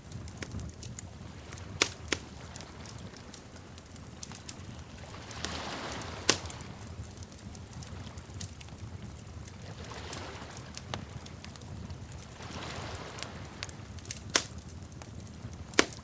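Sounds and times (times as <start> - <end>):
flames roaring: 0.0 - 16.0
hiss of fire: 0.0 - 16.0
wood fire crackling: 0.0 - 16.0.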